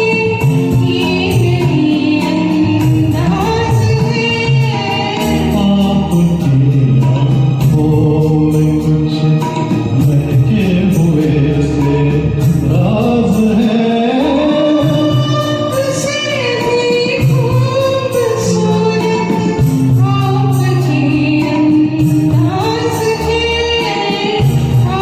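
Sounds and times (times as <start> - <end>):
instrumental accompaniment: 0.0 - 25.0
person singing wordless melody: 0.0 - 25.0
steady percussion beat: 0.0 - 25.0.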